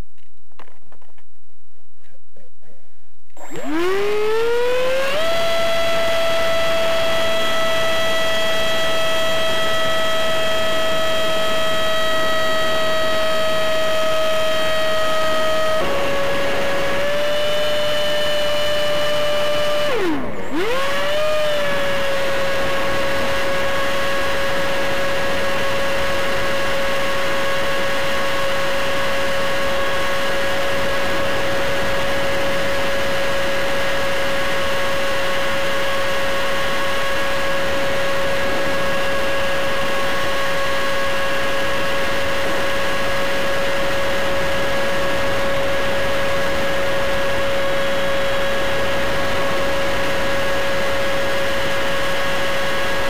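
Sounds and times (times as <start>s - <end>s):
electric fan motor whining: 3.3s - 53.0s.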